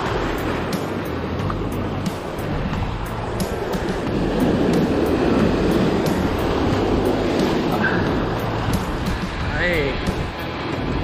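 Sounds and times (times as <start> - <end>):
background music: 0.0 - 11.0
waves washing over rocks: 0.0 - 11.0.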